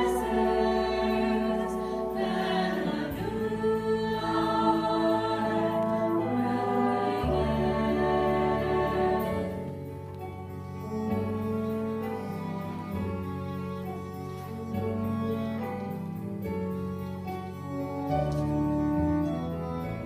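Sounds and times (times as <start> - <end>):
choir singing sustained chords: 0.0 - 16.7
woodwind orchestra: 0.0 - 20.0.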